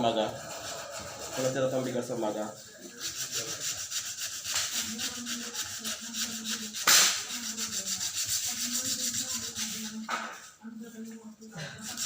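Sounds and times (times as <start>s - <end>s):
wood sanded by hand: 0.1s - 10.0s, 11.8s - 12.0s.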